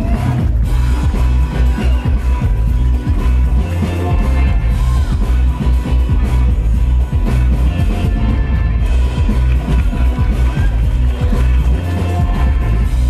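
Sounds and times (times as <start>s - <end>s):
dj music with heavy bass beat: 0.0s - 13.0s.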